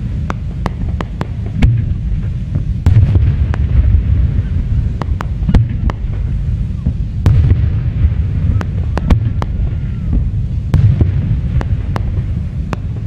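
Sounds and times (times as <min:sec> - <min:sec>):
fireworks bangs: 0:00.0 - 0:13.0
low rumble of shell bursts: 0:00.0 - 0:13.0.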